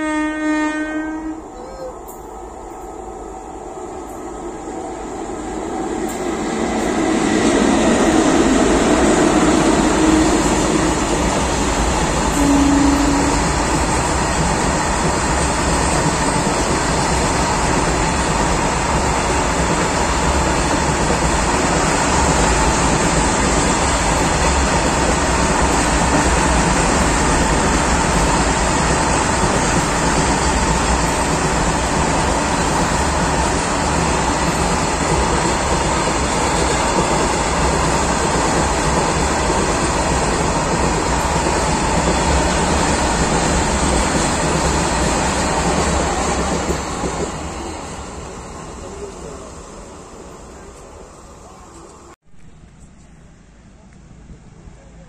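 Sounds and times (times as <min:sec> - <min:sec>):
freight train rumbling past: 0:00.0 - 0:52.2.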